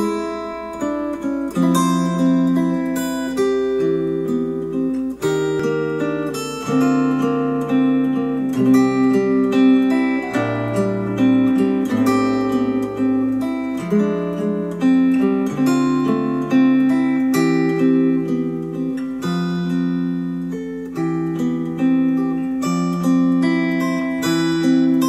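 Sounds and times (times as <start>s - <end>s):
acoustic guitar music from speakers: 0.0s - 25.0s.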